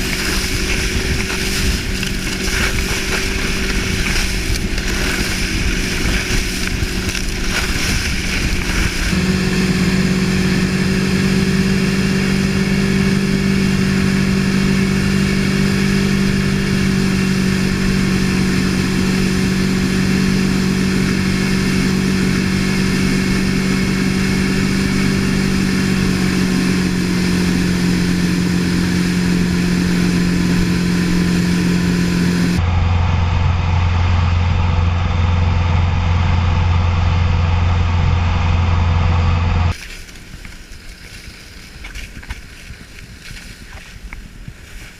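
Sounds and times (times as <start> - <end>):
motorboat engine running: 0.0 - 44.9.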